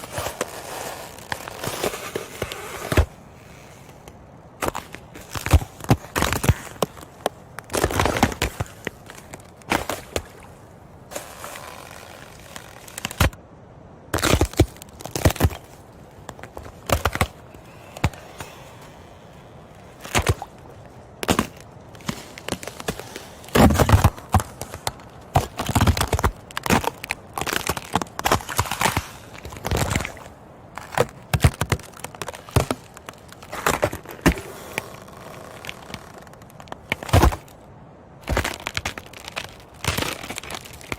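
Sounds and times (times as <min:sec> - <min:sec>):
ice cracking and crunching: 0:00.0 - 0:13.4, 0:14.2 - 0:37.6, 0:38.2 - 0:40.9.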